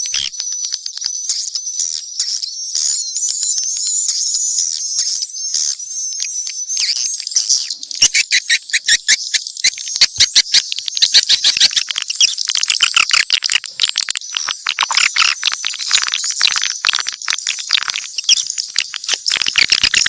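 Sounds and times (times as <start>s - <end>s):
fast clicking chatter: 0.0s - 20.0s
swiftlets twittering: 3.0s - 20.0s.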